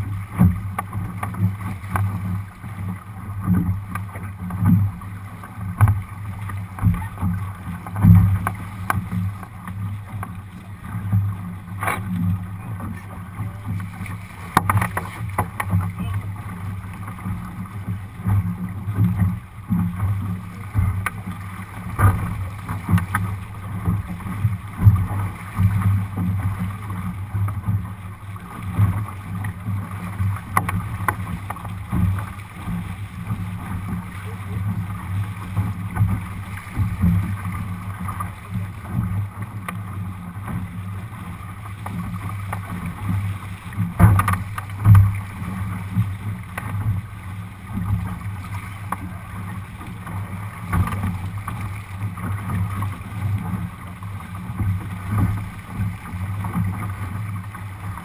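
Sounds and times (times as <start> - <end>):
hull slapping into waves: 0.0 - 58.0
water rushing along hull: 0.0 - 58.0.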